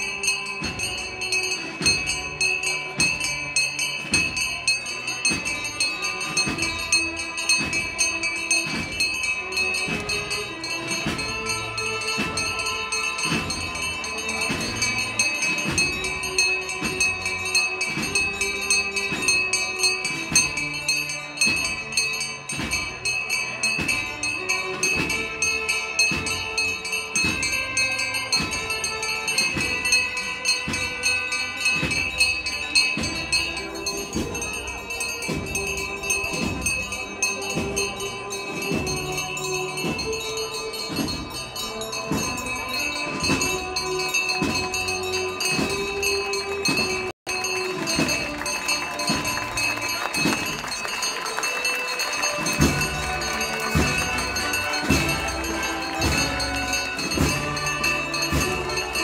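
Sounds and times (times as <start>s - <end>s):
held brass notes: 0.0s - 59.0s
procession band playing slow march: 0.0s - 59.0s
steady drumbeat: 0.0s - 59.0s.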